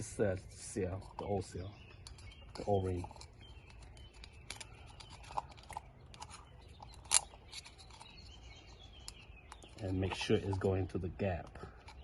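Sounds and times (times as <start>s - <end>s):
fingers scratching rubber o-ring: 0.8s - 12.0s.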